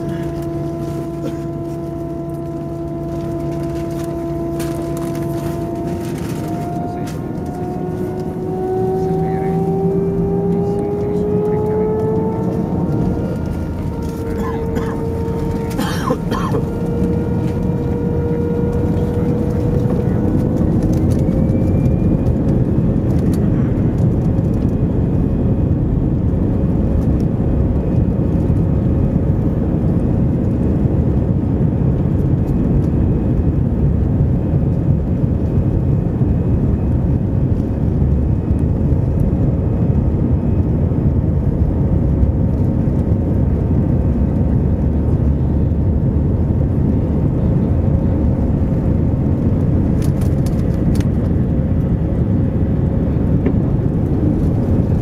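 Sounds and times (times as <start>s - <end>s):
aircraft cabin rumble: 0.0s - 55.0s
jet engines whining: 0.0s - 55.0s.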